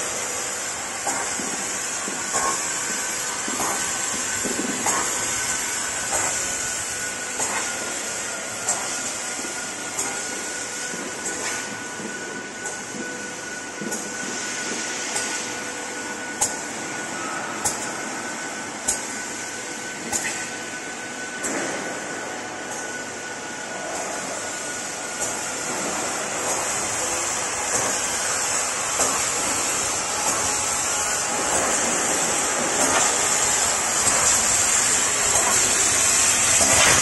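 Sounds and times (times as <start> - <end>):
laser cutting machine hiss: 0.0 - 37.0.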